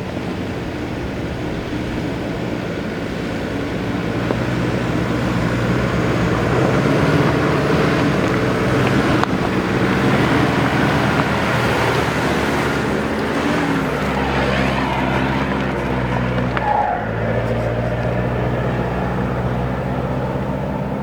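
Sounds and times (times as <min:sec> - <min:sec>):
wind noise: 0:00.0 - 0:20.3
vehicle engine running: 0:00.0 - 0:21.0
tyre noise: 0:03.6 - 0:21.0.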